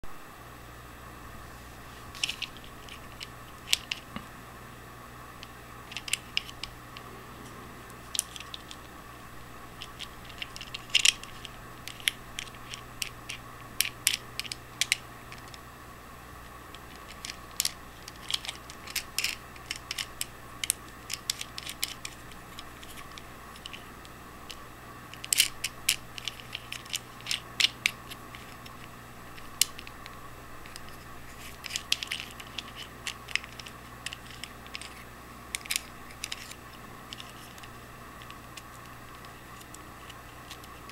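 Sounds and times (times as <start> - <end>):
steady background hum: 0.0 - 40.9.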